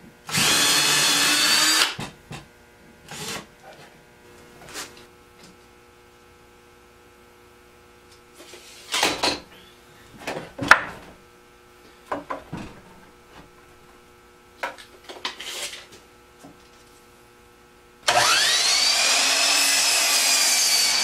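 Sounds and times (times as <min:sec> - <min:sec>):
faint steady hum: 0:00.0 - 0:18.7.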